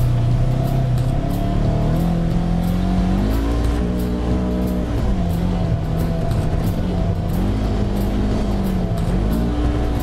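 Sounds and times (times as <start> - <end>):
music: 0.0 - 10.0
off-road vehicle engine running: 0.0 - 10.0.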